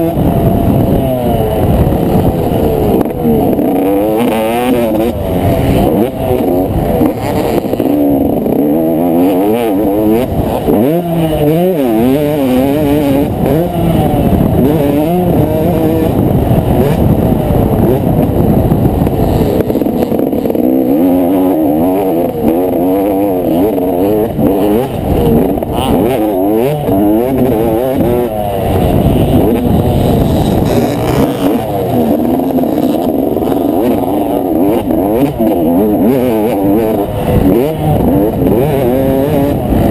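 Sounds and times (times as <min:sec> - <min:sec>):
low wind rumble: 0:00.0 - 0:39.9
motocross bike engine revving: 0:00.0 - 0:39.9.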